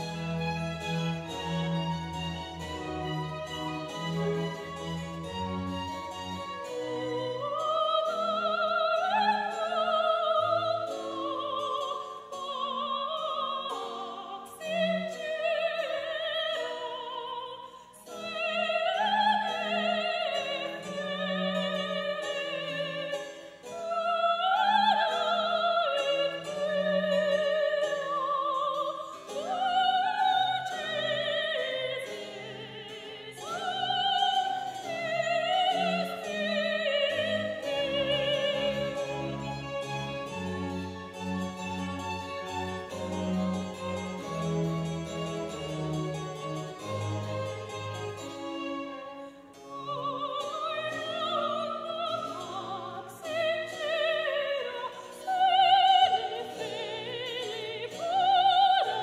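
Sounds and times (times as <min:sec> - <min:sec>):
instrumental accompaniment: 0:00.0 - 0:59.0
operatic high voice singing: 0:06.2 - 0:44.4, 0:49.6 - 0:59.0.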